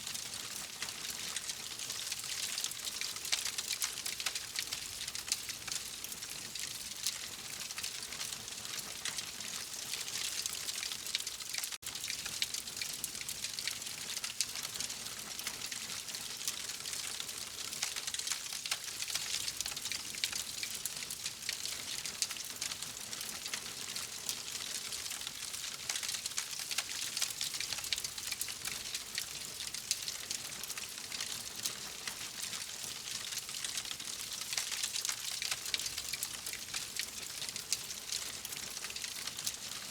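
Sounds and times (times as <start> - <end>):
wood fire crackling: 7.0 - 39.8.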